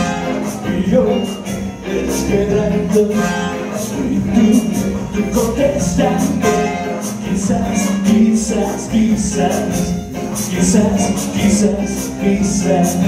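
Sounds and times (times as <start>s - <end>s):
live ska band playing: 0.0s - 13.0s
percussion beat: 0.0s - 13.0s
trombone: 0.0s - 13.0s.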